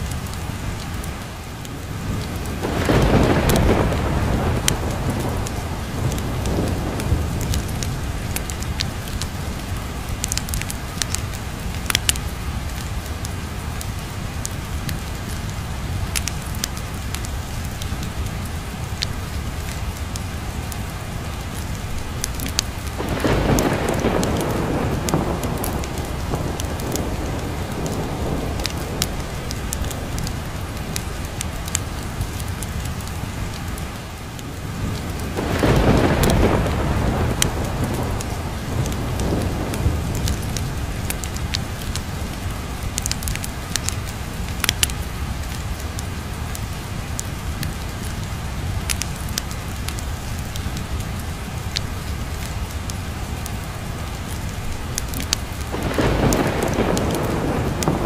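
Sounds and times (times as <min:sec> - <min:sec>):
fireplace crackling and popping: 0:00.0 - 0:58.0
steady rain: 0:00.0 - 0:58.0
thunder rumbling: 0:00.0 - 0:58.0.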